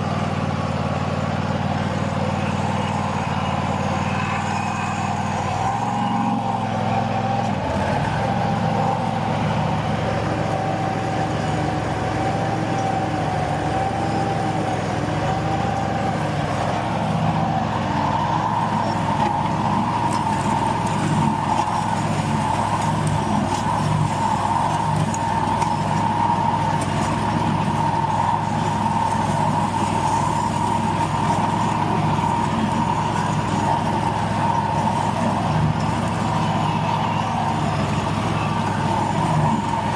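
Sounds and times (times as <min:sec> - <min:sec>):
constant high whine: 0:00.0 - 0:39.9
lawn mower engine running: 0:00.0 - 0:39.9.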